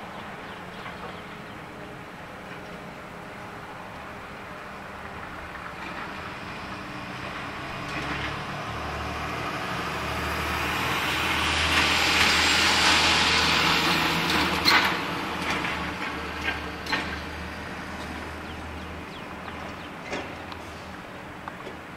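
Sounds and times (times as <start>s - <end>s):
road vehicle passing by: 0.0s - 21.9s.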